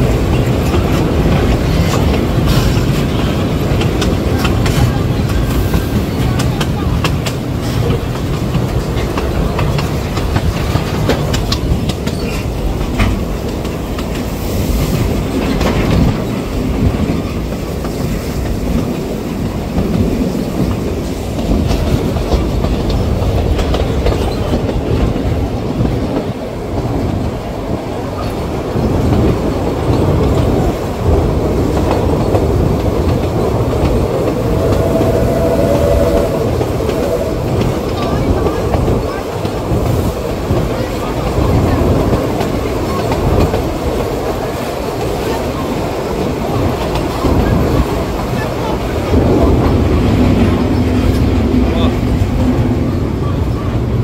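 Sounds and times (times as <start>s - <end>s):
wheels clacking over rail joints: 0.0s - 54.0s.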